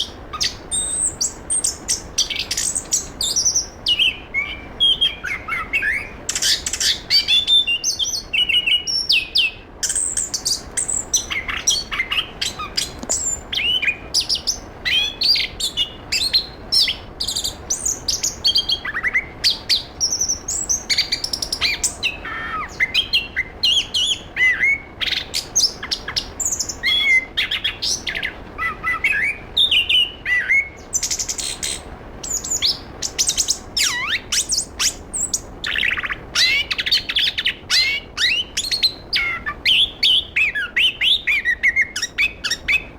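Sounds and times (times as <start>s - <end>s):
thrush singing chirps and whistles: 0.0s - 42.9s.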